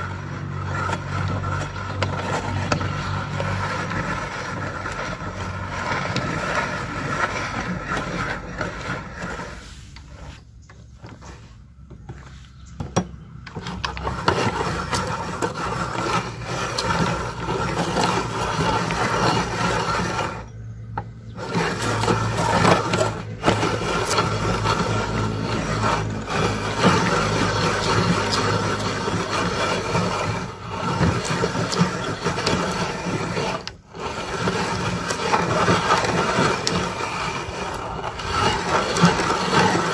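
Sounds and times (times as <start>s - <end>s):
meat grinder rattling and scraping: 0.0s - 39.9s.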